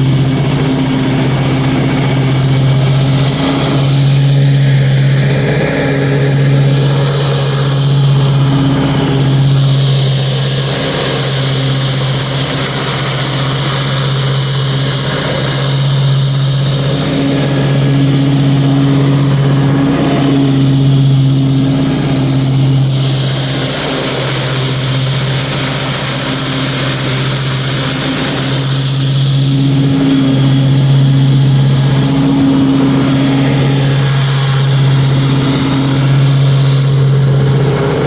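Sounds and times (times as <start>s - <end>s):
mower deck rushing hiss: 0.0s - 38.0s
riding mower engine hum: 0.0s - 38.0s.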